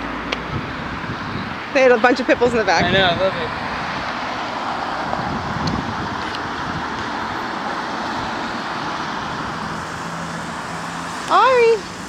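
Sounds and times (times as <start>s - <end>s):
cars passing on busy street: 0.0s - 12.0s.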